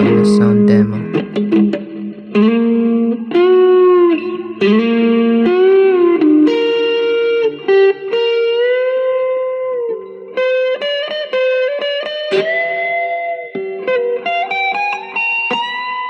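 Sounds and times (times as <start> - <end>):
electric guitar solo: 0.0 - 16.0.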